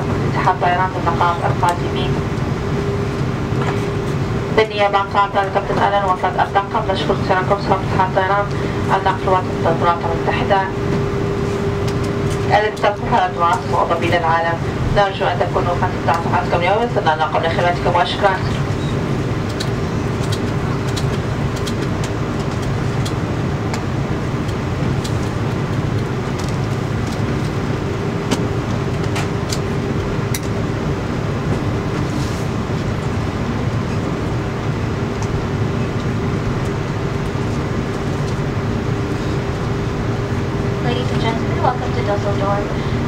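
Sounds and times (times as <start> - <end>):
airliner cabin hum: 0.0 - 43.0.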